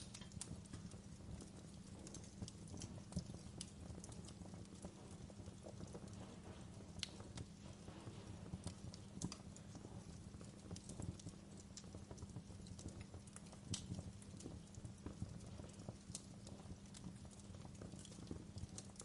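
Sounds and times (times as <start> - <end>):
burning wood popping: 0.0 - 19.0
campfire crackling: 0.0 - 19.0
low fire rumble: 0.0 - 19.0.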